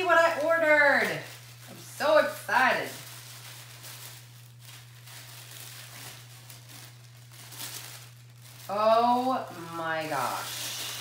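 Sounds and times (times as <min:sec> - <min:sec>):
tissue paper rustling: 0:00.0 - 0:11.0.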